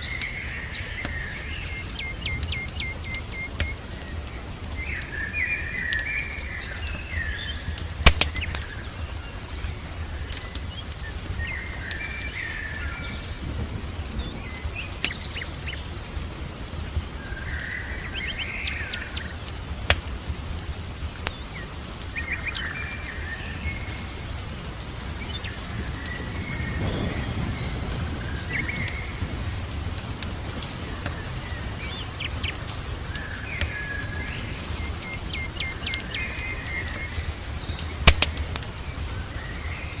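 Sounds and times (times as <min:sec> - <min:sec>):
songbirds chirping: 0:00.0 - 0:40.0
steady hiss: 0:00.0 - 0:40.0
wood fire popping and crackling: 0:00.0 - 0:40.0.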